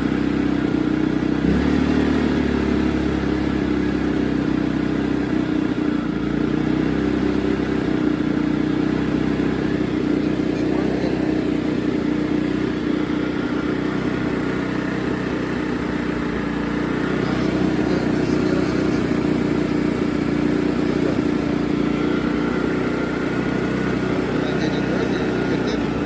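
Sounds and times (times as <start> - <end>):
generator engine humming: 0.0 - 26.0.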